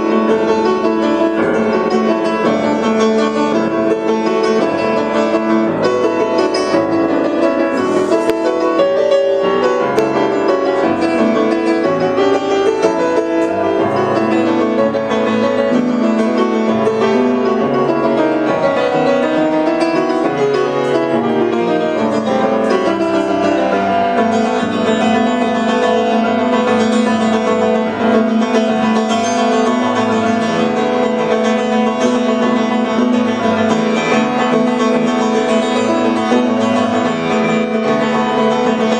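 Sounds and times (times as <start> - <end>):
grand piano: 0.0 - 38.9.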